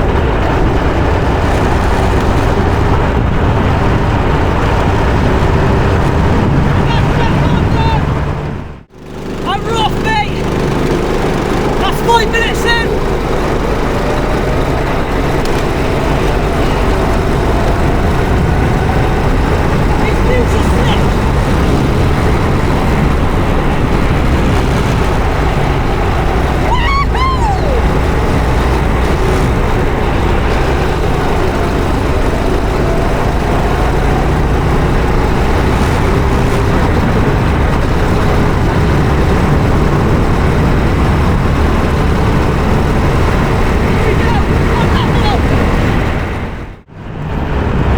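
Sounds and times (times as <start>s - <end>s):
go-kart engine running: 0.0s - 47.9s
wind and road noise: 0.0s - 47.9s.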